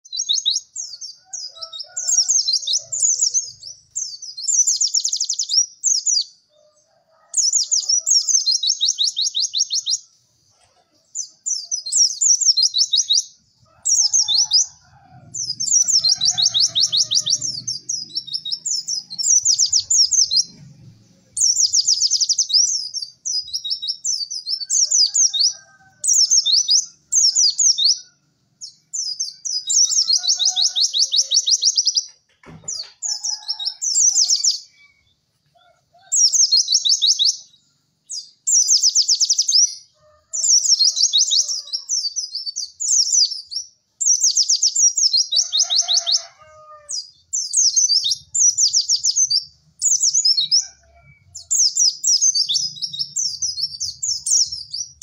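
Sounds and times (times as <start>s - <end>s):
bird chirping and trilling: 0.0s - 6.8s, 7.4s - 55.0s.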